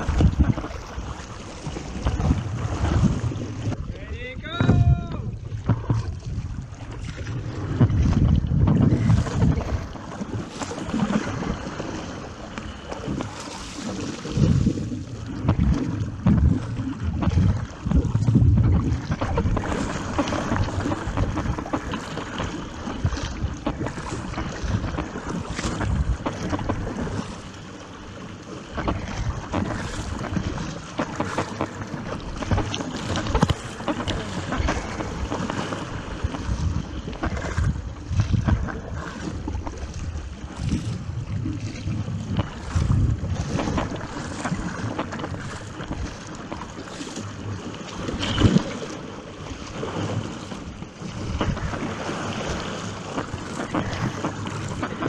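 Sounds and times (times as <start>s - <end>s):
wind buffeting microphone: 0.0s - 27.4s, 28.7s - 46.6s
water rushing and splashing: 0.0s - 55.0s.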